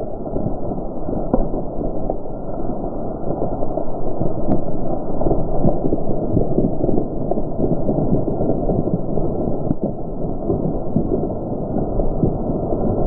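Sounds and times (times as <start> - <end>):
branches and wood crackling: 0.0 - 13.0.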